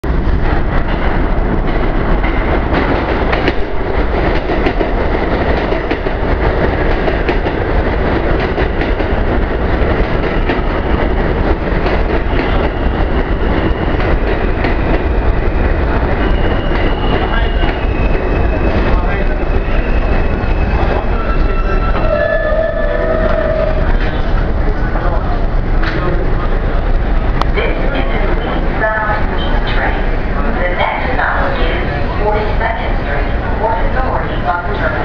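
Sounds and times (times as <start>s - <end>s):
train wheels rushing on rail: 0.0s - 35.0s.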